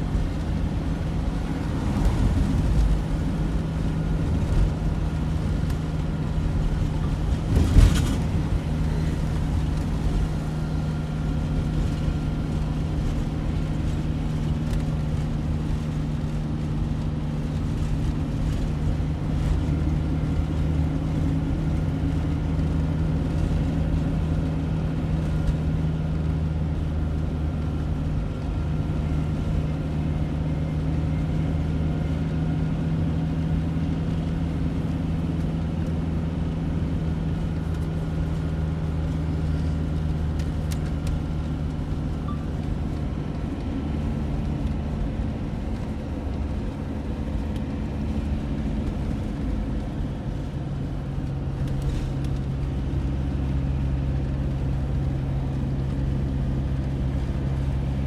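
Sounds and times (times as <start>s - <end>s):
car engine running: 0.0s - 58.0s
tyre and road noise: 0.0s - 58.0s.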